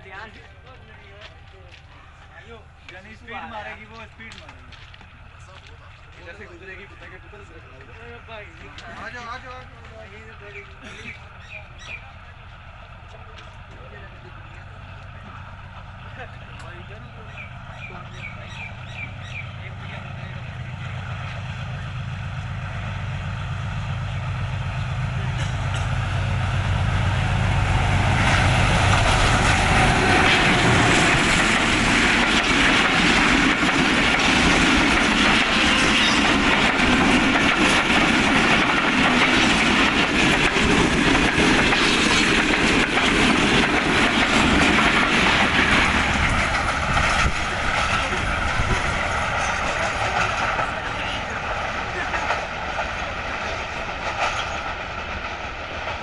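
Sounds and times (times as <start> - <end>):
diesel locomotive engine drone: 0.0 - 56.0
train wheels clattering on rails: 0.0 - 56.0.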